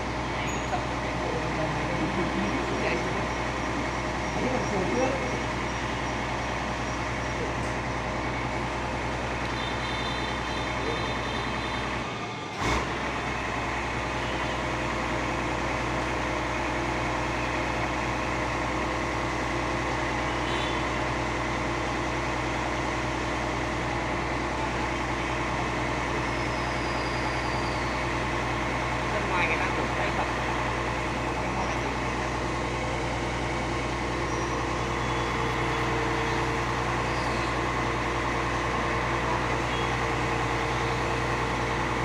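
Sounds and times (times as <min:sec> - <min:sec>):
fire truck engine running: 0:00.0 - 0:42.0.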